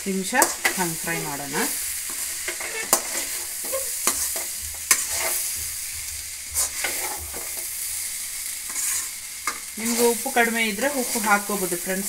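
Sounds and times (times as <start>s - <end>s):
okra sizzling in a pan: 0.0s - 12.0s
spatula scraping a pan: 0.3s - 11.8s.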